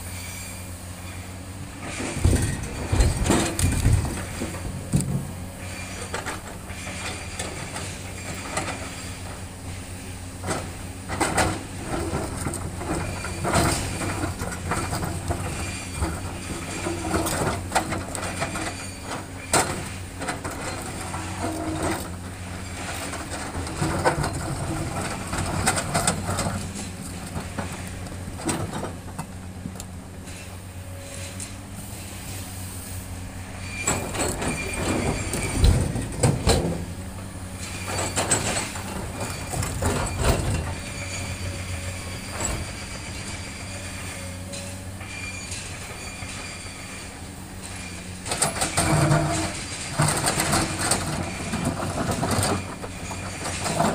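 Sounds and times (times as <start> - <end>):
excavator diesel engine: 0.0 - 53.9
rocks clanking against steel bucket: 1.8 - 30.5, 33.6 - 46.6, 47.6 - 53.9.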